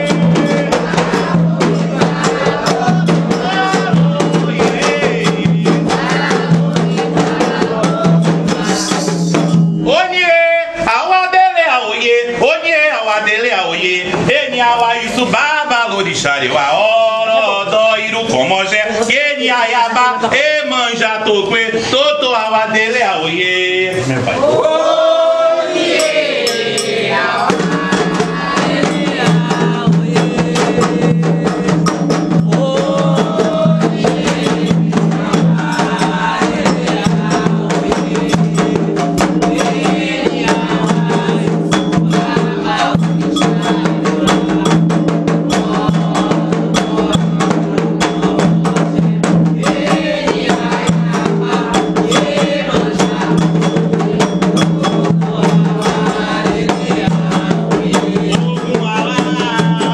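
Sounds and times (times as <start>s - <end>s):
hand drums and percussion: 0.0s - 59.9s
voices singing: 0.0s - 59.9s.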